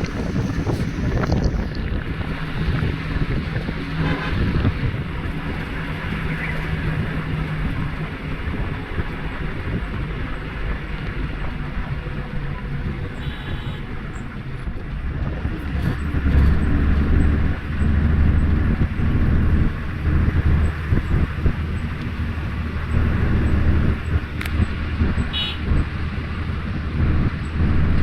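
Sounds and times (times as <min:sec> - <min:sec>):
vehicle rumbling in motion: 0:00.0 - 0:28.0.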